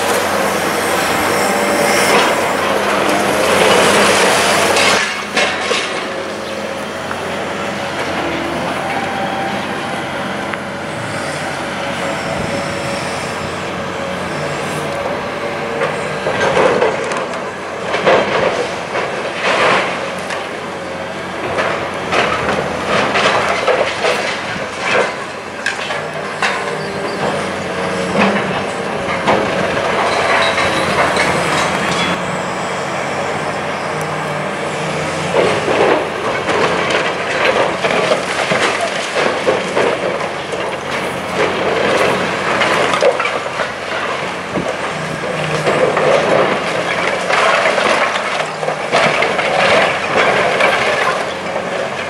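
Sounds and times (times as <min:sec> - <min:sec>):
concrete crunching and cracking: 0:00.0 - 0:09.5, 0:15.8 - 0:32.8, 0:33.4 - 0:52.0
diesel engine and hydraulic drone: 0:00.0 - 0:52.0.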